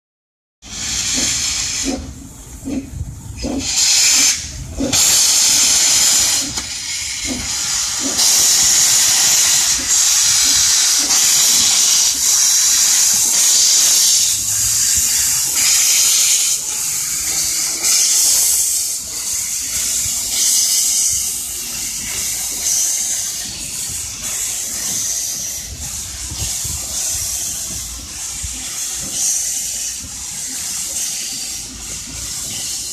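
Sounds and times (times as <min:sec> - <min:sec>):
steam locomotive hissing in pulses: 0:00.6 - 0:32.9.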